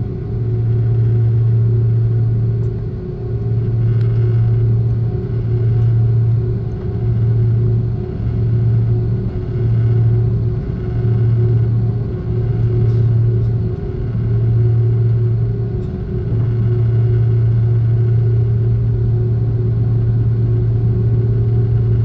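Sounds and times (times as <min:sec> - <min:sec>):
airliner engine drone: 0:00.0 - 0:22.0.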